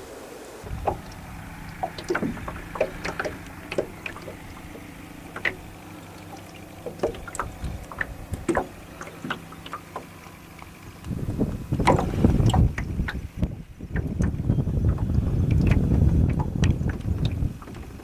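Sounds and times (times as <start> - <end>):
water splashing against boat: 0.0 - 18.0
faint low hum: 0.6 - 15.7.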